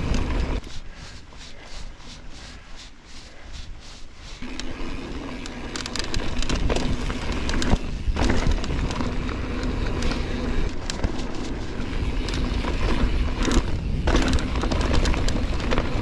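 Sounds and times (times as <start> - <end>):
bike clicks and rattles: 0.0 - 1.2, 4.2 - 16.0
wind rumbling on microphone: 0.0 - 2.5, 5.4 - 16.0
bike tyres on dirt trail: 0.0 - 16.0.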